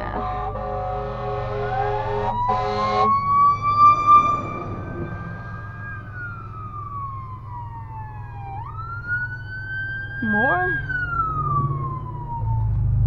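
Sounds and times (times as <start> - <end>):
siren wailing: 0.0 - 12.7
car engine hum: 0.0 - 13.0.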